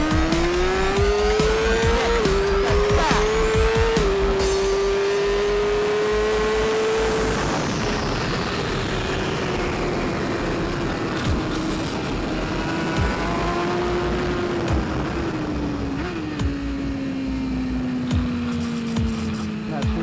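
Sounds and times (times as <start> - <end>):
motorbike engine at high revs: 0.0 - 20.0.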